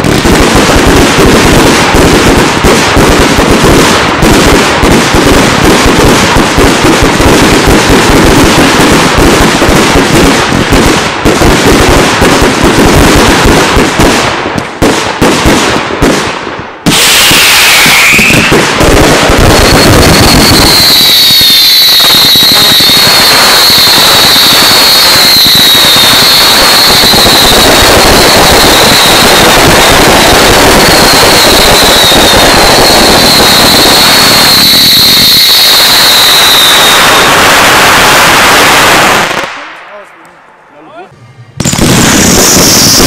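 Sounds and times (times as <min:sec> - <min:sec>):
fireworks bangs: 0:00.0 - 0:43.0
fireworks crackling: 0:00.0 - 0:43.0
fireworks whistling: 0:00.0 - 0:43.0.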